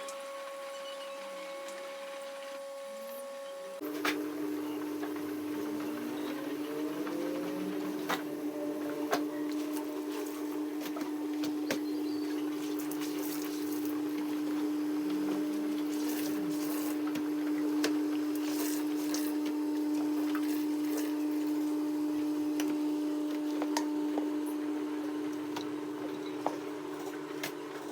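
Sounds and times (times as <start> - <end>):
laundry machine motor humming: 0.0 - 27.9
motor whines spinning up: 0.0 - 27.9.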